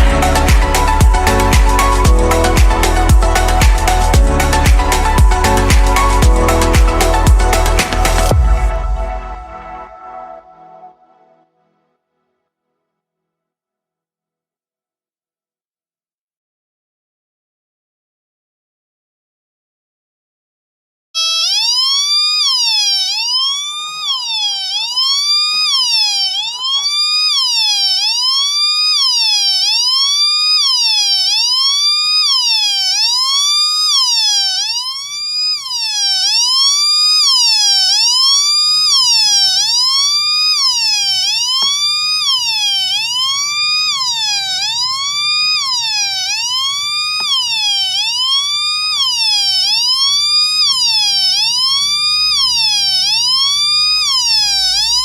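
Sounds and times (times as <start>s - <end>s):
electronic siren wailing: 0.0s - 11.4s, 21.2s - 55.0s.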